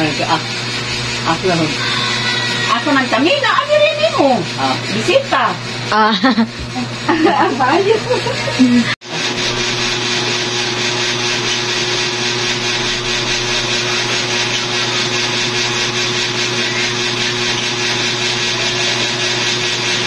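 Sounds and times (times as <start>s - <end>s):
machine whirring with hum: 0.0s - 20.0s.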